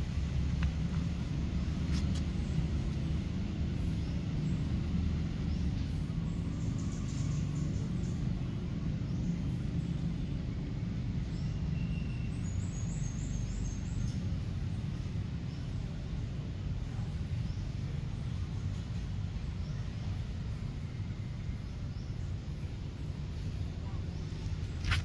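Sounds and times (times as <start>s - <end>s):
outdoor low rumble: 0.0s - 25.0s.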